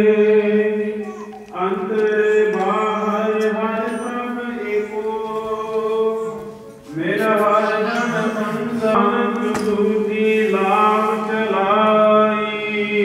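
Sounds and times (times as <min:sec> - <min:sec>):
man singing a hymn: 0:00.0 - 0:13.0.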